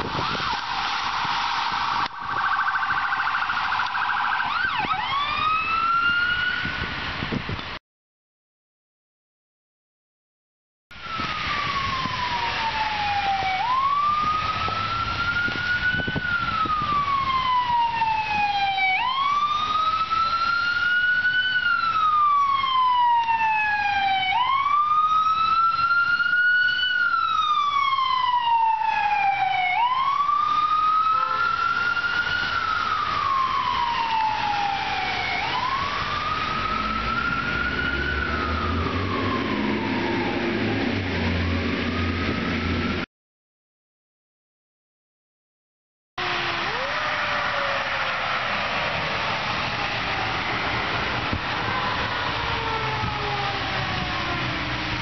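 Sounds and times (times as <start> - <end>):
fainter siren sweeps: 0.0 - 6.8, 11.0 - 43.0, 46.2 - 55.0
emergency siren wailing: 0.0 - 7.1, 10.9 - 43.1, 46.2 - 55.0.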